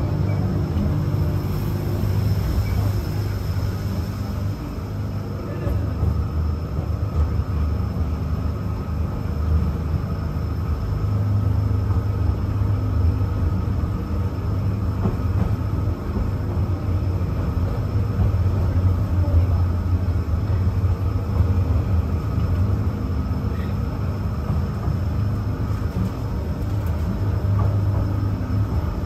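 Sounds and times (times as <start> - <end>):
trolley car rumble: 0.0 - 29.0.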